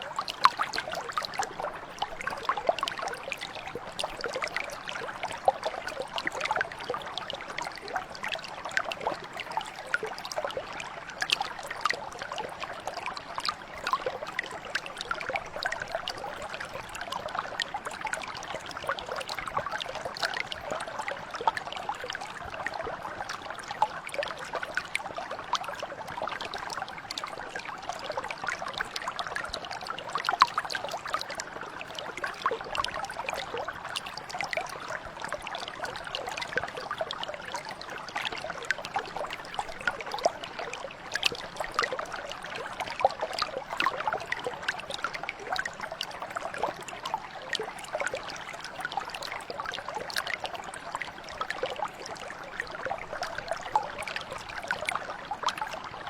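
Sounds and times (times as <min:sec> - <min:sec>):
brook flowing over stones: 0:00.0 - 0:56.0.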